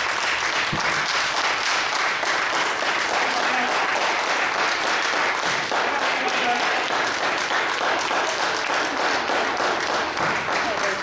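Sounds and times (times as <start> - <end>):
spectators applauding and cheering: 0.0 - 11.0.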